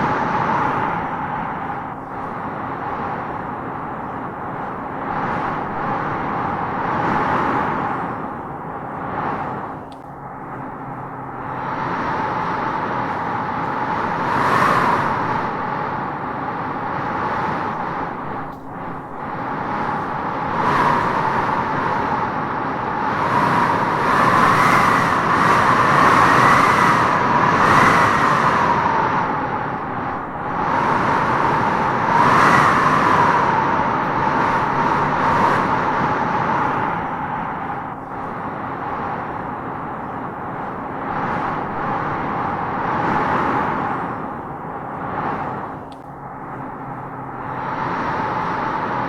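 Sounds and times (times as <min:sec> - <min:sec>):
wind howling through trees: 0:00.0 - 0:49.0.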